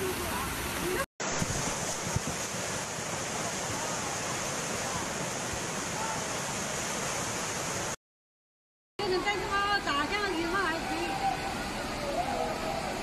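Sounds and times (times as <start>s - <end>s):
floodwater rushing: 0.0s - 8.0s, 9.0s - 13.0s.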